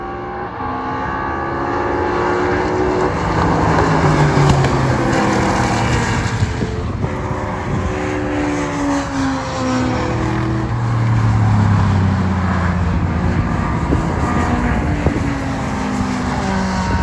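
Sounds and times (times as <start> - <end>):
race car engines revving past: 0.0 - 17.0.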